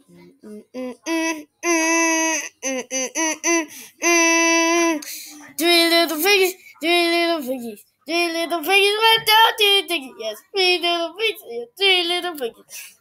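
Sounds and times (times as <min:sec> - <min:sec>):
high voice singing: 0:00.4 - 0:11.6.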